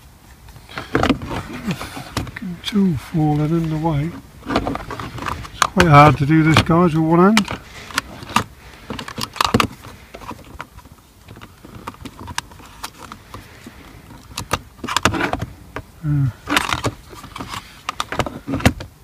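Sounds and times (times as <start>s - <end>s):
plastic handling clicks and knocks: 0.7s - 2.4s, 3.3s - 19.0s.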